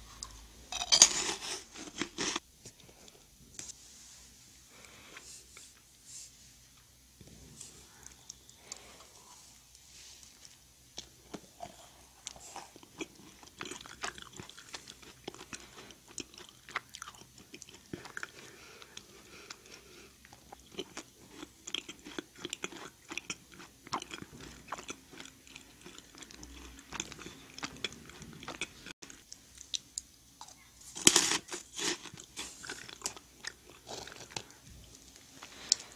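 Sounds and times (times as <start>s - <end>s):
soft chewing: 4.6s - 35.9s.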